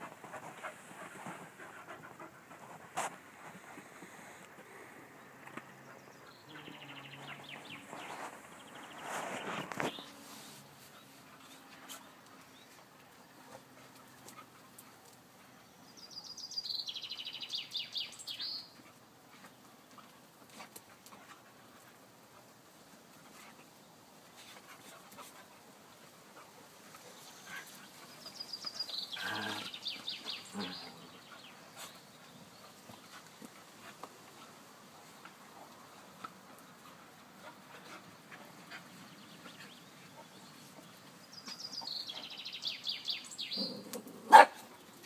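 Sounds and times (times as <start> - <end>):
dogs scuffling and panting: 0.0 - 15.8, 18.0 - 43.4.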